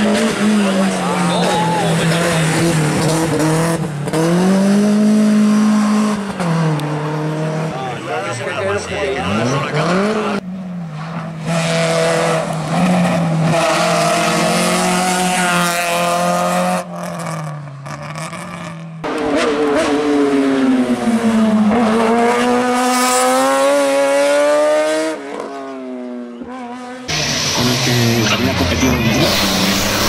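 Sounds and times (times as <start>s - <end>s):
race car engines at high revs: 0.0s - 30.0s.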